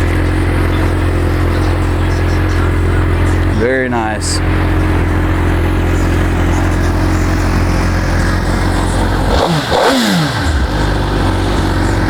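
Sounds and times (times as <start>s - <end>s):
motorcycle engine idling: 0.0s - 12.0s
motorcycle throttle rev: 0.0s - 12.0s.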